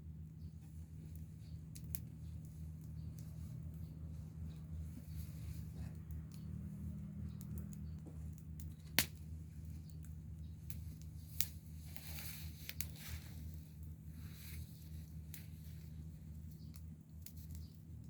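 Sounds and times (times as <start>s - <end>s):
steady low hum: 0.0s - 18.0s
wood fire crackling and popping: 0.0s - 18.0s.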